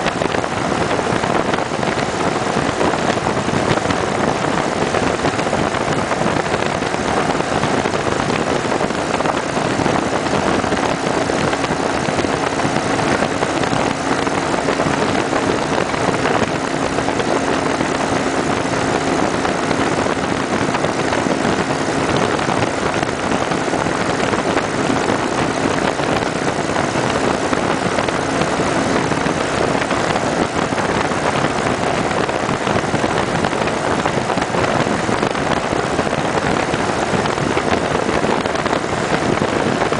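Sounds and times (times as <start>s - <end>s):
motorcycle engine humming: 0.0s - 39.9s
wind rush: 0.0s - 39.9s.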